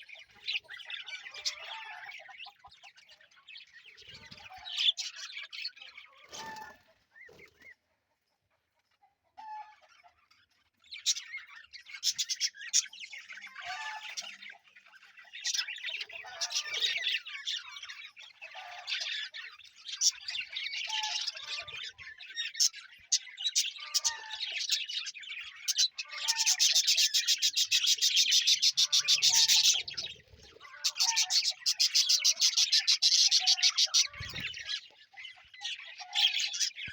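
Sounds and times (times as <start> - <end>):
budgerigars chirping and chattering: 0.0 - 36.9.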